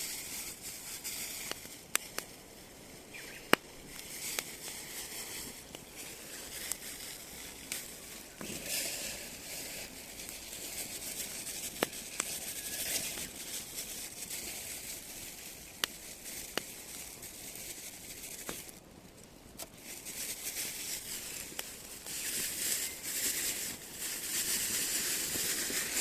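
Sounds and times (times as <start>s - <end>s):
fire popping: 0.0s - 26.0s
firewood crackling and hissing: 0.0s - 26.0s.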